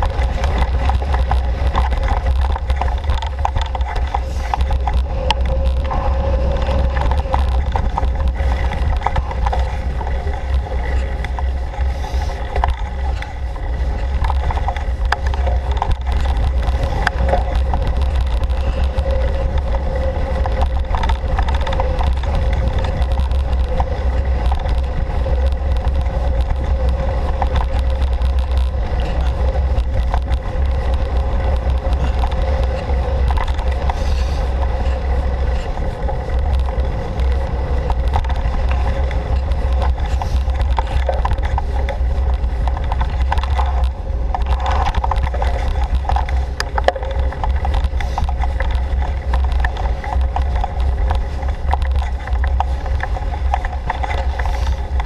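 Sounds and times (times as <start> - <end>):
bike clicks and rattles: 0.0 - 55.0
rolling and wind rumble: 0.0 - 55.0
steady hum: 0.0 - 55.0.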